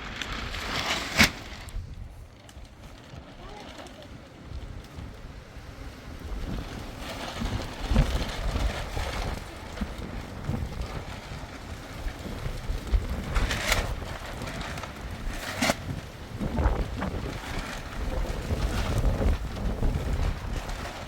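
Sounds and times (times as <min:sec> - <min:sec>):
wind gusting against microphone: 0:00.0 - 0:21.0.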